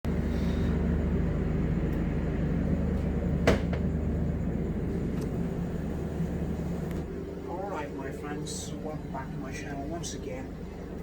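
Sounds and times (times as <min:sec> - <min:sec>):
train mechanical hum: 0:00.1 - 0:11.0.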